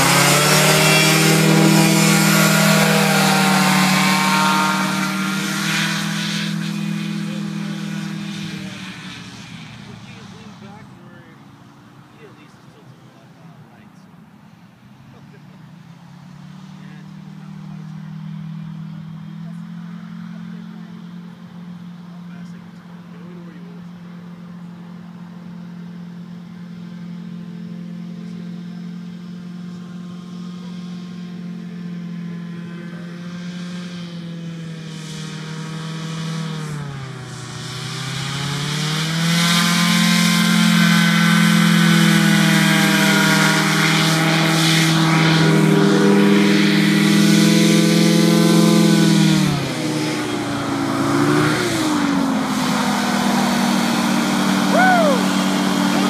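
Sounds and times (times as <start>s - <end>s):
hovercraft engine and fan: 0.0s - 56.0s.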